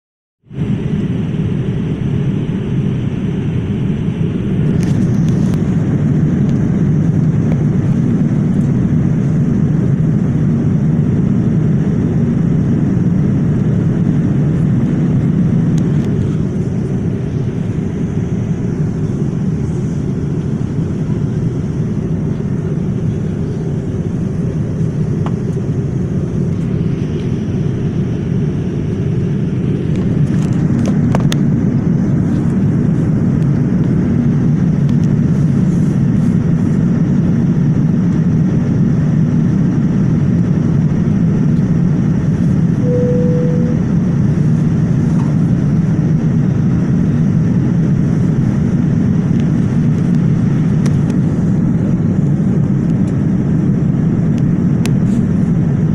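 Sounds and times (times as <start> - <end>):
airliner engines rumbling: 0.5 - 55.9.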